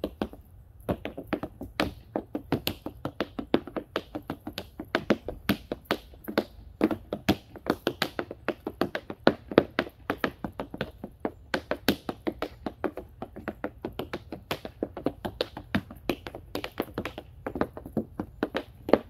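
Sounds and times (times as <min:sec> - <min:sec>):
tap shoes clicking on wooden board: 0:00.0 - 0:19.0.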